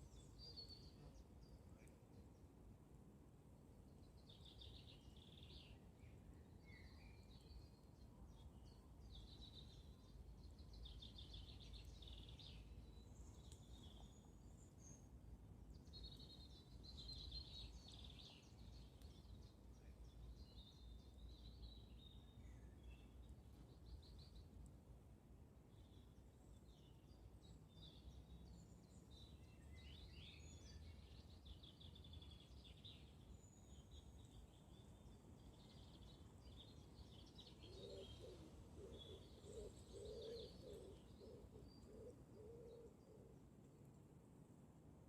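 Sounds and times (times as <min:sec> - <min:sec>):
low rumble of background noise: 0:00.0 - 0:45.0.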